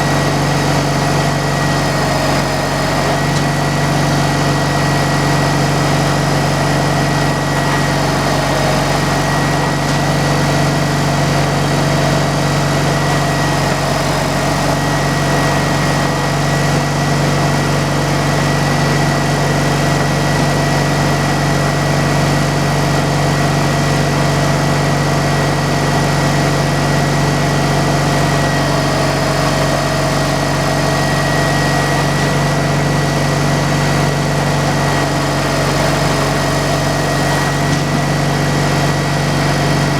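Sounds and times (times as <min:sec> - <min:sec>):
engine droning with high whine: 0:00.0 - 0:39.9.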